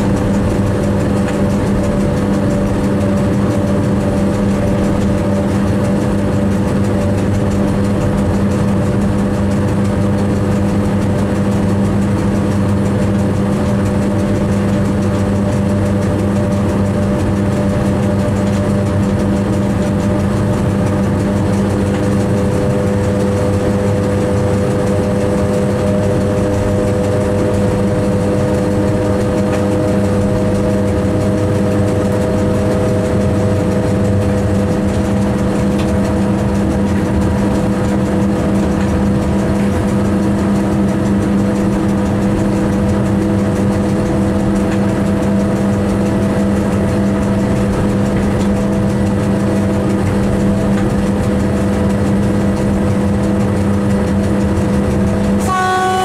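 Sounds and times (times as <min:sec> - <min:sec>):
continuous train rumble: 0:00.0 - 0:56.0
train cab hum: 0:00.0 - 0:56.0.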